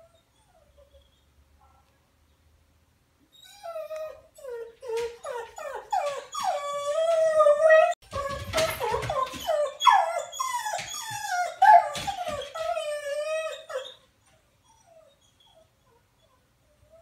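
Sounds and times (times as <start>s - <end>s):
dog whining and yelping: 0.0s - 1.3s, 3.3s - 17.0s.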